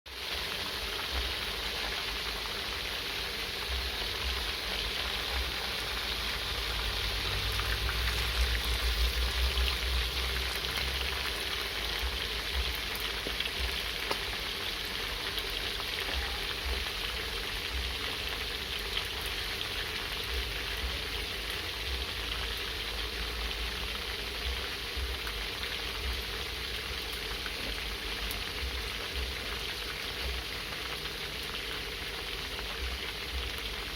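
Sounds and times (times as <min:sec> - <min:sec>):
meat sizzling in hot oil: 0:00.1 - 0:33.9.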